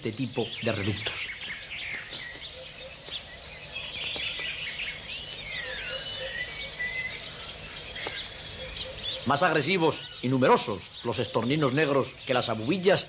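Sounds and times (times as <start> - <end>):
birds chattering and whistling: 0.0 - 13.0.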